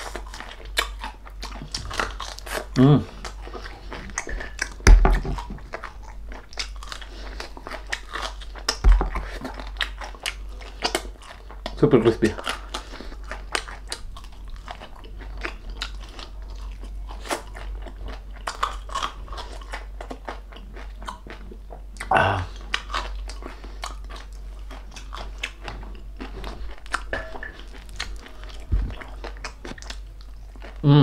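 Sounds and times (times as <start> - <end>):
crunching crispy food: 0.0 - 31.0
low electrical hum: 0.0 - 31.0.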